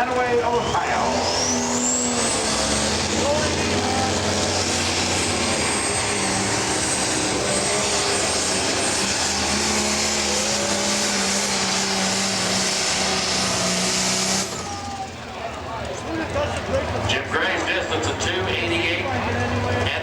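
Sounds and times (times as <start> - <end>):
tractor diesel engine running flat out: 0.0 - 20.0.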